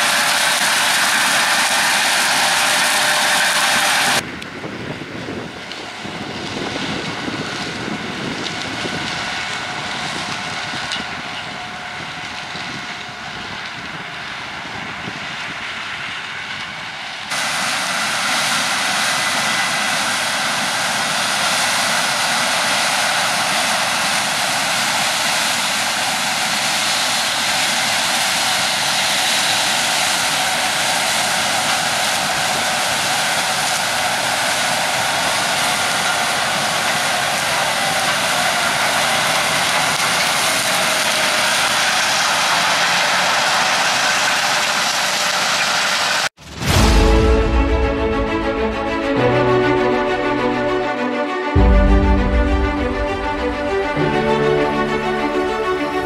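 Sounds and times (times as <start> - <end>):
combine harvester running: 0.0 - 56.0
tractor engine: 0.0 - 56.0.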